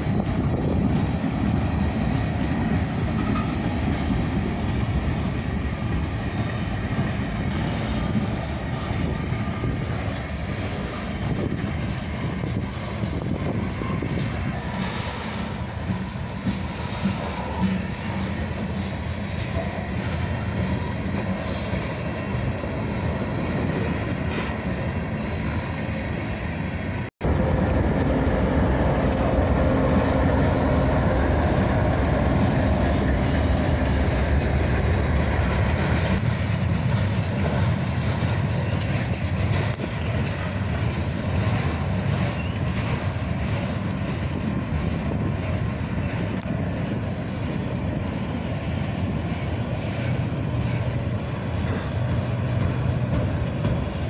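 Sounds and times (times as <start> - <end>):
diesel locomotive passing: 0.0 - 54.0
train wheels clattering on rails: 0.0 - 54.0.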